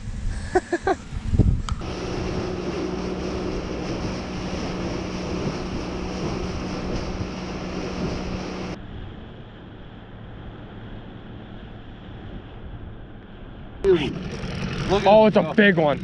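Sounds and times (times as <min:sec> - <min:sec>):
water rushing along hull: 0:00.0 - 0:16.0
wind buffeting microphone: 0:00.0 - 0:16.0
outboard motor humming: 0:00.5 - 0:13.1, 0:13.8 - 0:16.0.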